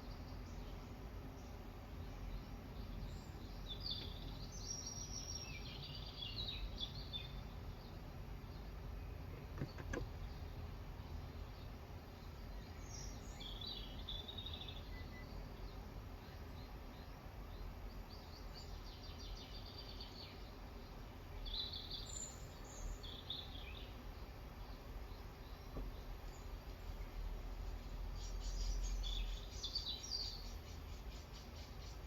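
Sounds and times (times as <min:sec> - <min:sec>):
birds chirping and trilling: 0:00.0 - 0:32.0
low background rumble: 0:00.0 - 0:32.0.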